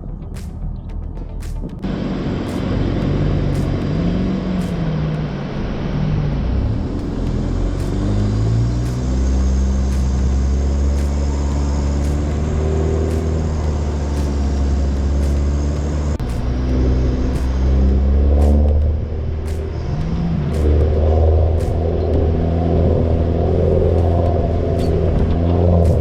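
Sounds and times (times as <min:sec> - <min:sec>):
vehicle engine driving: 0:00.0 - 0:26.0.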